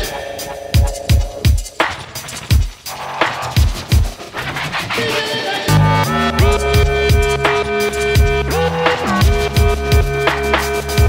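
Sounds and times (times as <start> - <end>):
electronic music with kick drums: 0.0 - 4.3, 5.6 - 11.0.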